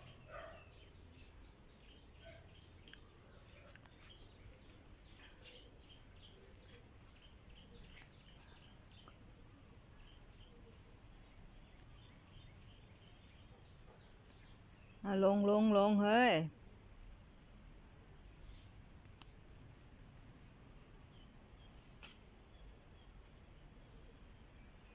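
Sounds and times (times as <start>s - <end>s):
small birds chirping: 0.0s - 16.4s, 18.0s - 24.9s.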